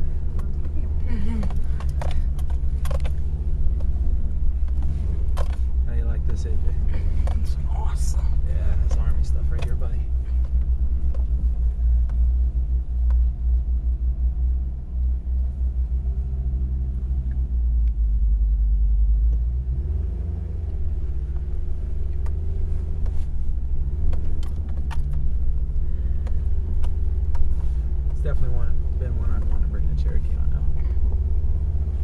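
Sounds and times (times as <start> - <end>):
engine low rumble: 0.0 - 32.0.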